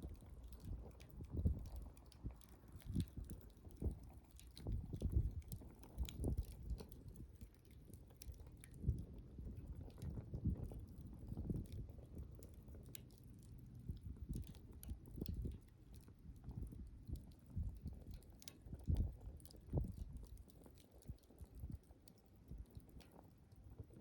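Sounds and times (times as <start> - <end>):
campfire crackling and popping: 0.0 - 24.0
low rumble of fire: 0.0 - 24.0.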